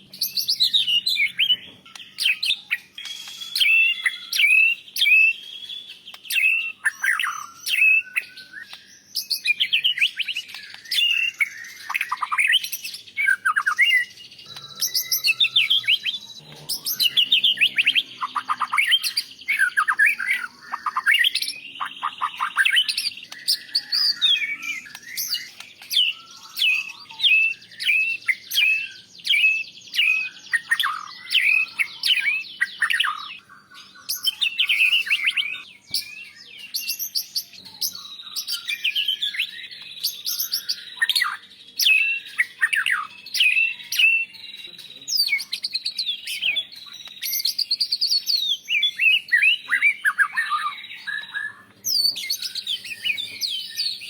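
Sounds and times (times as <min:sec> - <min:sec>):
bird singing whistles and chirps: 0:00.0 - 0:54.0.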